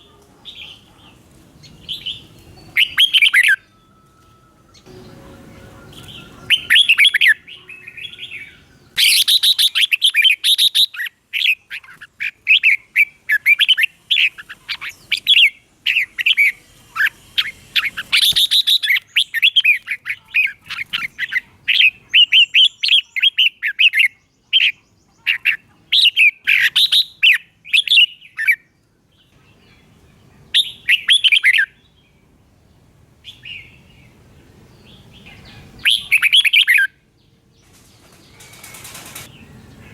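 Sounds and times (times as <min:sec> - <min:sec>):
bird singing chirping phrases: 0:00.0 - 0:39.9.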